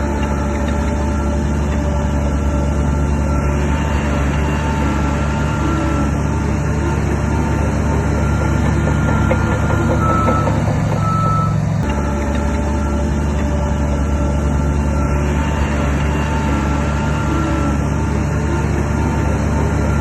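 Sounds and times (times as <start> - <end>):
reversing alarm beeping: 0.0 - 17.9, 18.5 - 20.0
diesel construction machinery running: 0.0 - 20.0.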